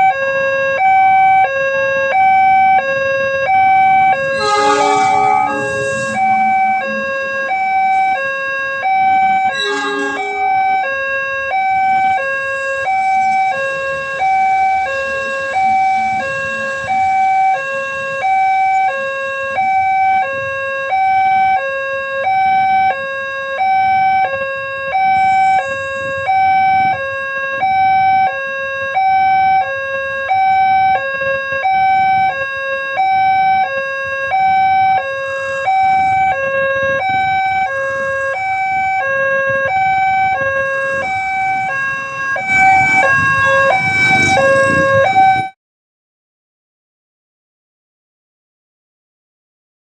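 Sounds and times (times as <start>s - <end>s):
two-tone crossing alarm: 0.0s - 45.6s.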